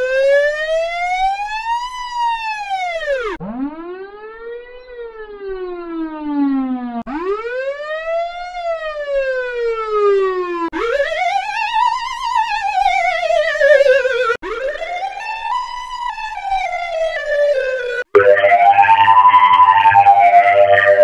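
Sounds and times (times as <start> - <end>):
police siren wailing: 0.0 - 21.0.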